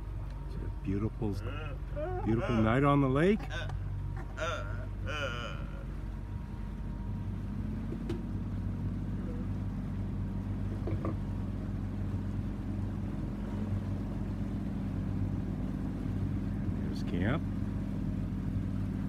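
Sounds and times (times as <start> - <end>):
boat motor humming: 0.0 - 19.0
water noise: 0.0 - 19.0
wind: 0.0 - 19.0.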